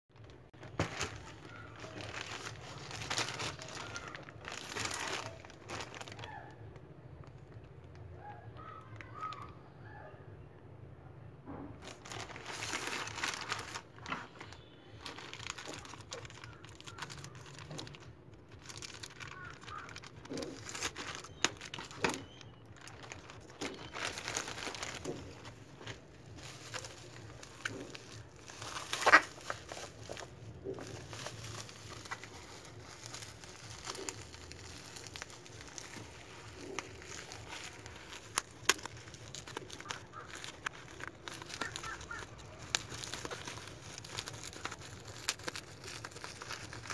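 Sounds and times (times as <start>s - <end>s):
plastic and bubble wrap crinkling: 0.1s - 9.7s, 11.5s - 46.9s.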